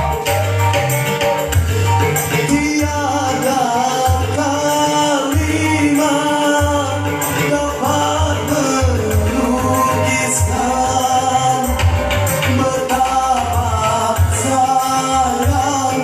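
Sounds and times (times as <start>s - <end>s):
band with pulsing bass beat: 0.0s - 16.0s.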